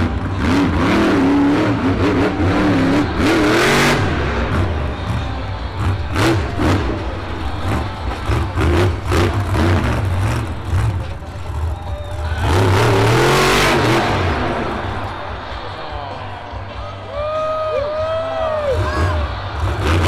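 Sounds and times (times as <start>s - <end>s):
monster truck engine revving: 0.0s - 15.8s, 18.6s - 20.0s.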